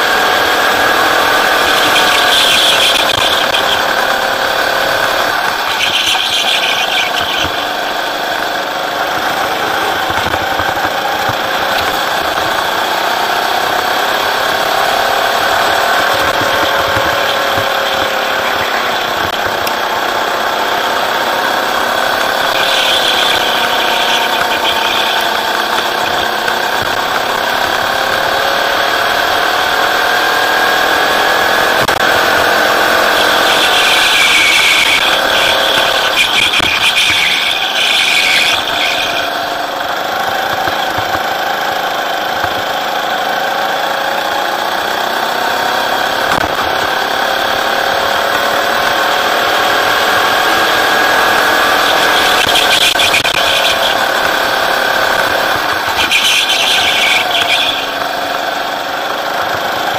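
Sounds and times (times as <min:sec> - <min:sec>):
go-kart engine accelerating: 0:00.0 - 0:59.9.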